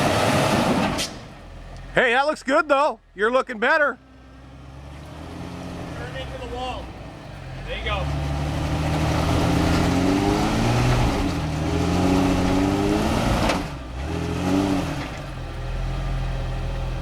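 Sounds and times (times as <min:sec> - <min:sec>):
engine revving under load: 0:00.0 - 0:02.0, 0:04.0 - 0:17.0.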